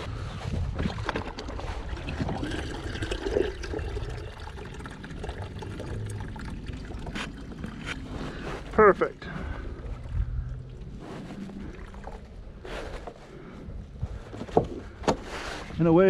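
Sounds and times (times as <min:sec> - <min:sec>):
low rumble: 0:00.0 - 0:15.0
water lapping at a hull: 0:00.0 - 0:15.0.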